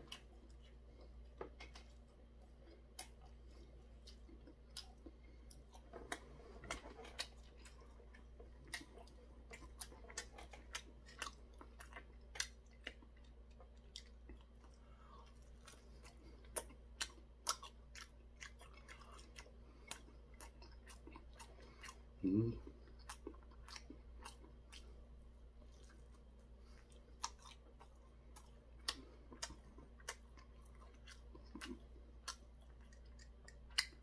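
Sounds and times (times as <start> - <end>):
chewing crispy fried food: 0.0 - 34.0.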